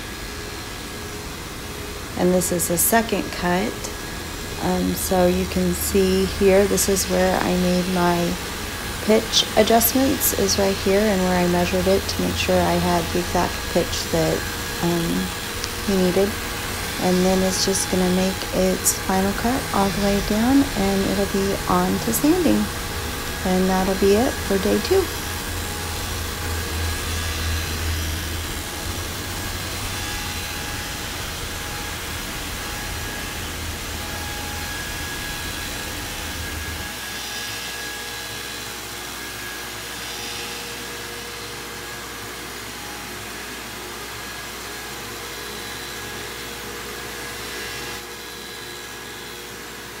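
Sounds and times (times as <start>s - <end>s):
dust collector blowing: 0.0s - 50.0s
lathe cutting wood: 0.9s - 41.8s.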